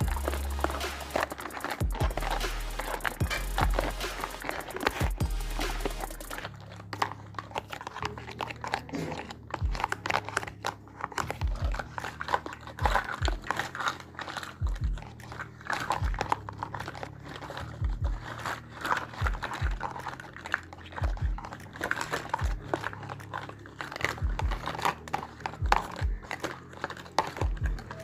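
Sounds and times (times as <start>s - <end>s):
packaging crinkling: 0.0s - 28.0s.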